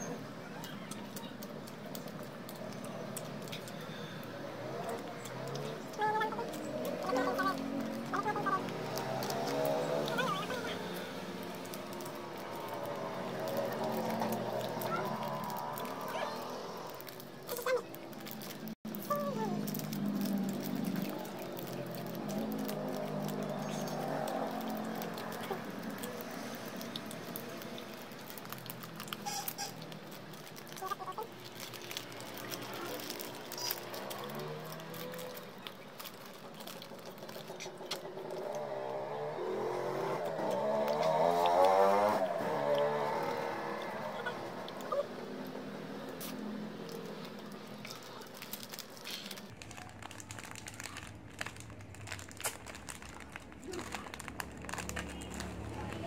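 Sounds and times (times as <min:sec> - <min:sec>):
plastic wrappers crinkling: 0:00.0 - 0:56.0.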